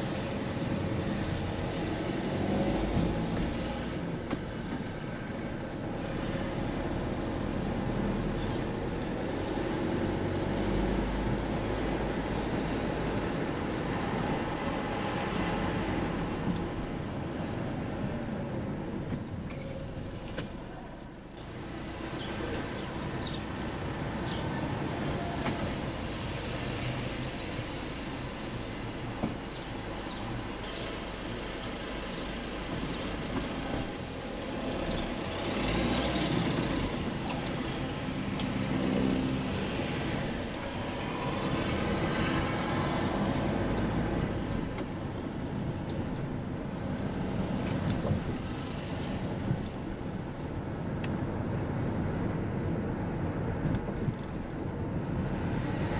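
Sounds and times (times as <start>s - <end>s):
vehicle rumble: 0.0s - 55.9s.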